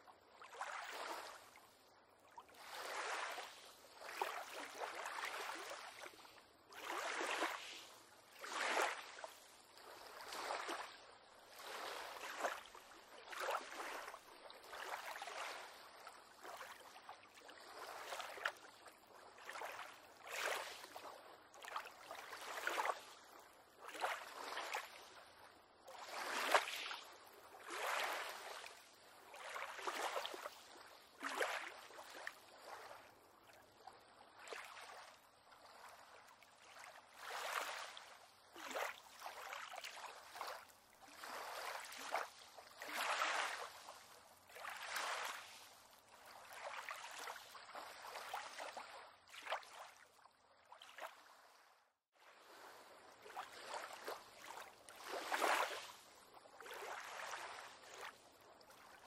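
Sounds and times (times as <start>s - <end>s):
small waves lapping against pier: 0.0s - 59.0s.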